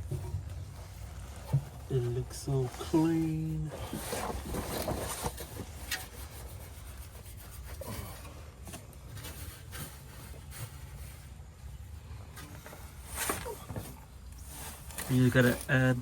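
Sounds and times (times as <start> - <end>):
rubbing and scraping handling noises: 0.0 - 16.0.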